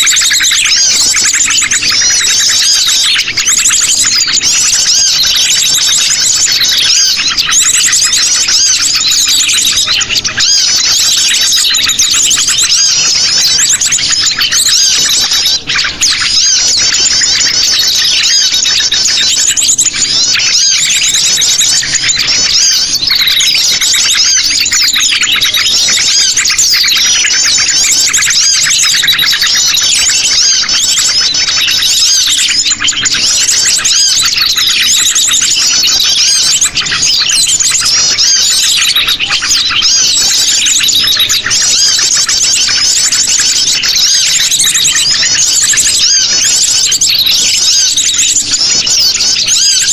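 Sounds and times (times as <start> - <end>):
birds chirping and trilling: 0.0 - 49.9.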